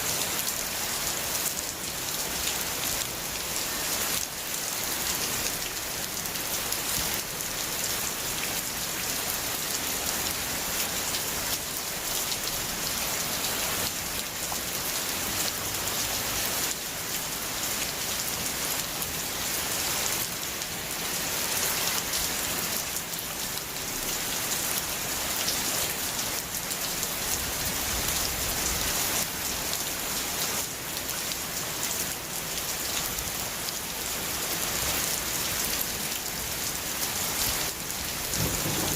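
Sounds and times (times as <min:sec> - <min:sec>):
heavy rain on hard surface: 0:00.0 - 0:38.9.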